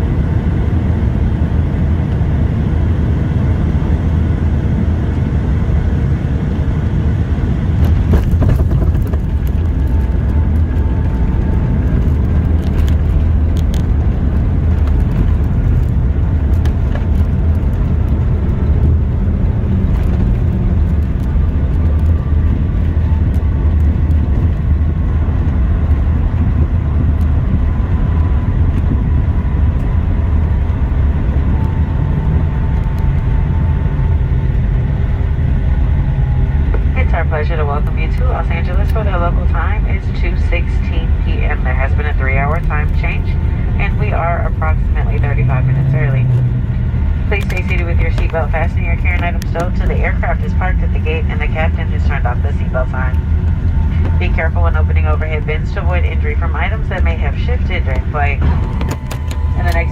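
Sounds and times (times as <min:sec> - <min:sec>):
airplane cabin low rumble: 0:00.0 - 0:59.9.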